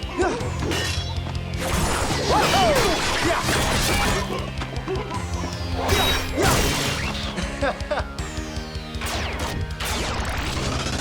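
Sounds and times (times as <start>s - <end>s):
action cartoon fight music: 0.0s - 11.0s.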